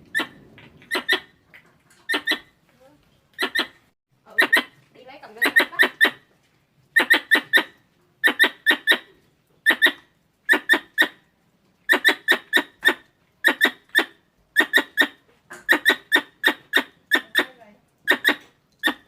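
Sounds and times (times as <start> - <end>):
squirrel chirping: 0.1 - 1.4, 2.1 - 2.5, 3.4 - 6.2, 6.9 - 11.2, 11.9 - 19.0.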